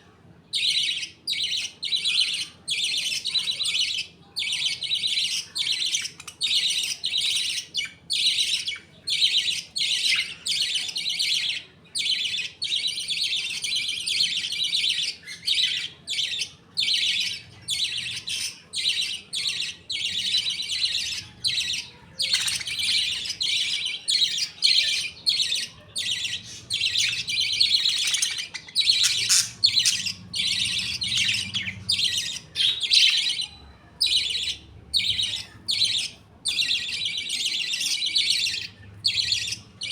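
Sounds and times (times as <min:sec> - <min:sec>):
budgerigars chirping: 0:00.6 - 0:39.9.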